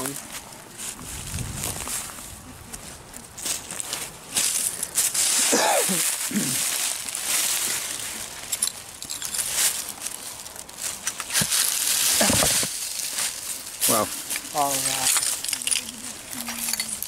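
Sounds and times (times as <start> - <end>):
dry leaves crunching and rustling: 0.0 - 17.0.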